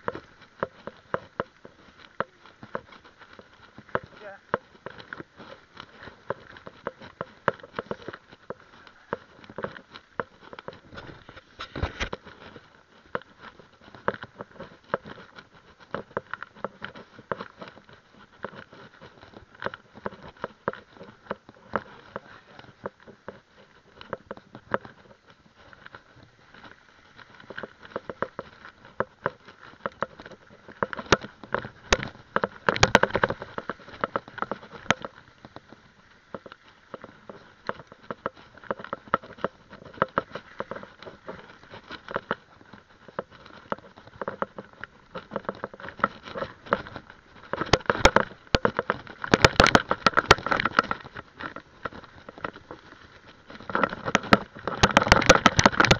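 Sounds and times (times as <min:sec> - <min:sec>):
mountain bike rattling over gravel: 0:00.0 - 0:55.9.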